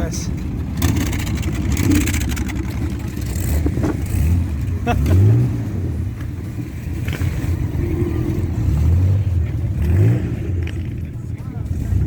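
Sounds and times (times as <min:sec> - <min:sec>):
motorcycle engines rumbling past: 0:00.7 - 0:12.0.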